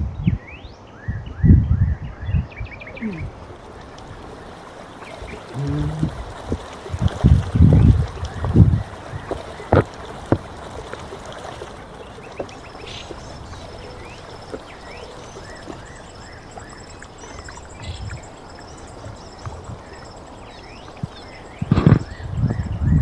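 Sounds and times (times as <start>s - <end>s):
small birds chirping: 0.0s - 23.0s
running water rushing: 2.6s - 23.0s.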